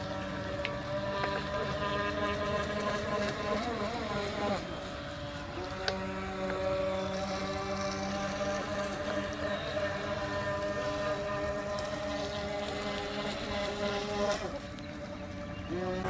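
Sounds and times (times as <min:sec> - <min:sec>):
model boat motors whining: 0:00.0 - 0:16.0.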